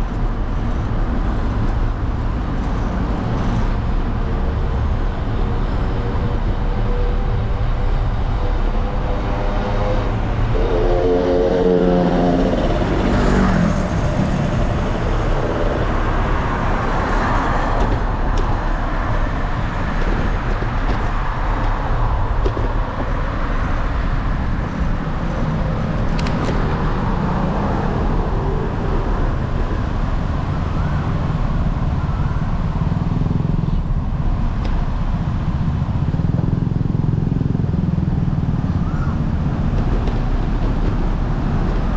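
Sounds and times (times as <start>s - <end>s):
bicycle road rumble: 0.0s - 41.9s
steady wind: 0.0s - 41.9s.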